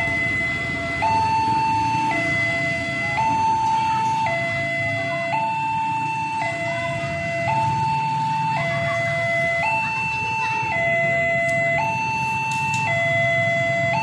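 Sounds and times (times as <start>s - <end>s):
level crossing two-tone alarm: 0.0s - 14.0s
low rumble of road traffic: 0.0s - 14.0s.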